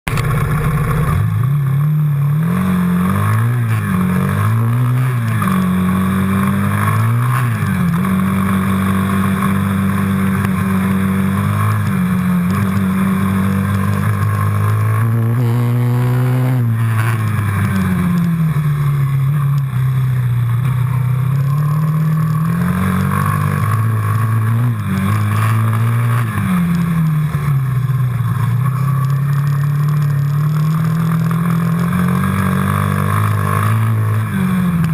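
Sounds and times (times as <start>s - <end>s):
quad bike engine revving: 0.0s - 34.9s.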